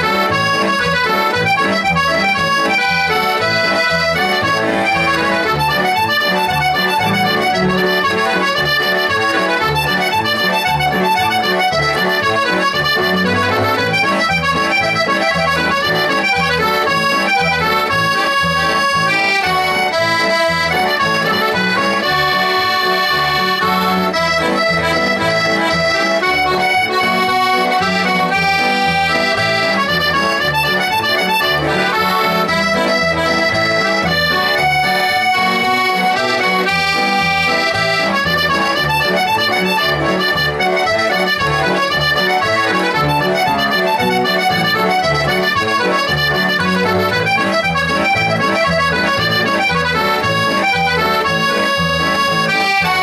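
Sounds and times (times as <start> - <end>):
button accordion melody: 0.0 - 53.0
electric piano accompaniment: 0.0 - 53.0.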